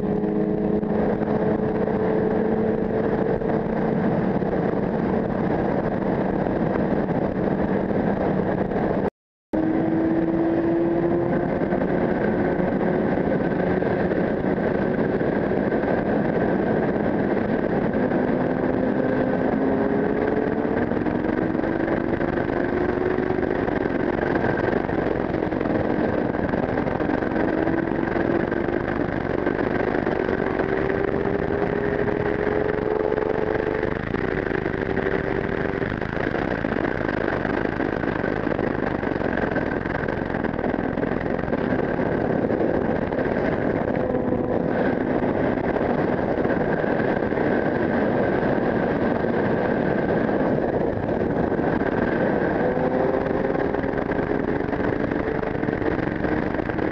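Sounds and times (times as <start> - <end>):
motorcycle engine running: 0.0 - 56.9
wind rush on microphone: 0.0 - 56.9.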